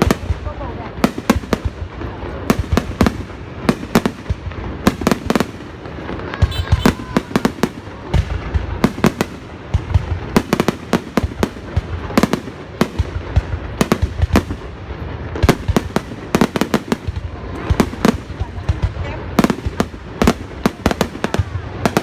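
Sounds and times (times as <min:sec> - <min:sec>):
distant fireworks rumble: 0:00.0 - 0:22.0
fireworks bangs: 0:00.0 - 0:22.0.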